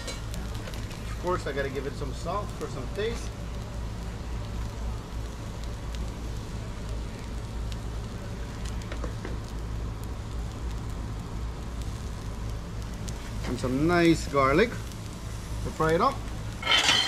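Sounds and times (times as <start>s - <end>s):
food sizzling and crackling: 0.0s - 17.0s
gas burners roaring: 0.0s - 17.0s.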